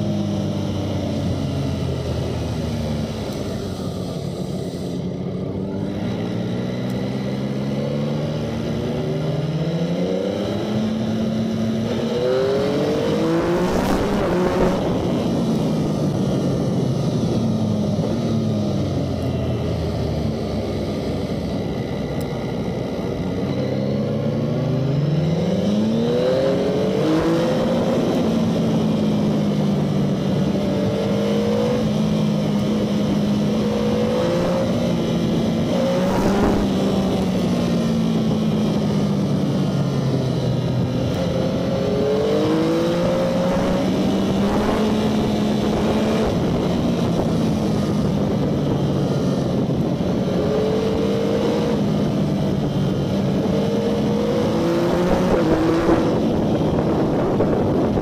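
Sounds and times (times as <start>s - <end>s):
motorcycle engine accelerating: 0.0s - 58.0s
wind noise: 9.9s - 58.0s.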